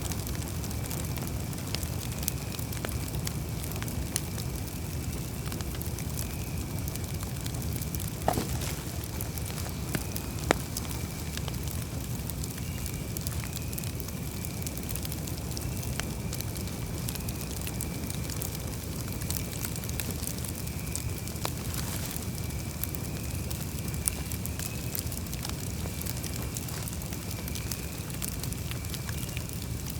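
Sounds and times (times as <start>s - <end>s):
low rumble of flame: 0.0s - 29.9s
wood crackling and popping: 0.0s - 29.9s.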